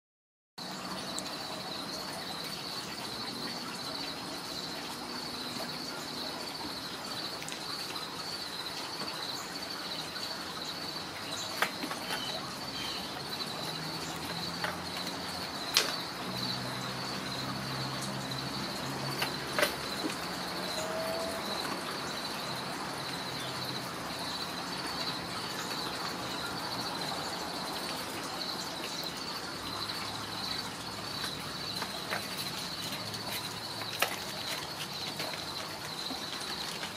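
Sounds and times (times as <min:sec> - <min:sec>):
insects chirping trill: 0:00.6 - 0:36.9.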